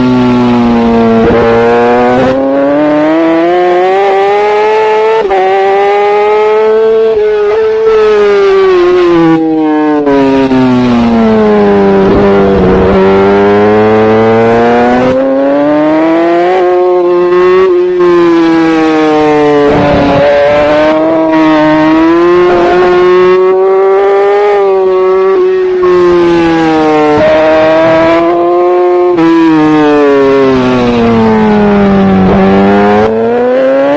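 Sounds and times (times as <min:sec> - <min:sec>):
racing motorbike engine: 0:00.0 - 0:33.9.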